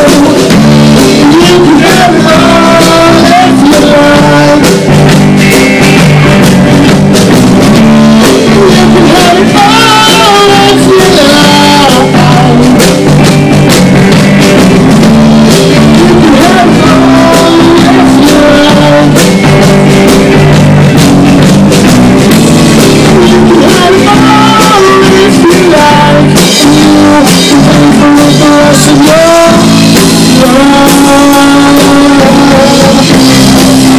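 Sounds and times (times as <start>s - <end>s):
bass guitar: 0.0s - 33.9s
drum kit: 0.0s - 33.9s
electric guitar: 0.0s - 33.9s.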